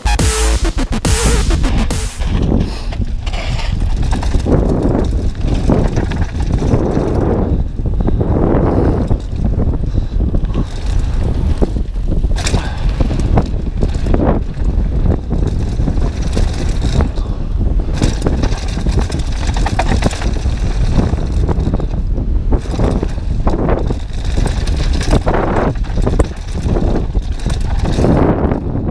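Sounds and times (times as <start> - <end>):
tyres on loose gravel: 2.2 - 28.6
bike clattering over bumps: 2.2 - 28.9
wind rush on microphone: 2.2 - 28.9.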